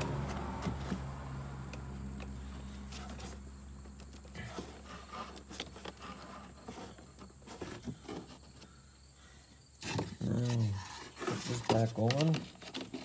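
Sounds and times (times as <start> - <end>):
air filter rustling and scraping: 0.0 - 13.0.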